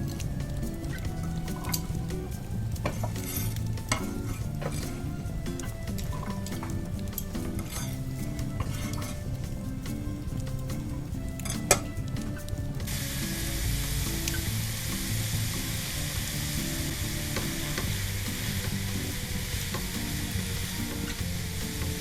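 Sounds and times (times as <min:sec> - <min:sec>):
stirring clicks: 0:00.0 - 0:22.0.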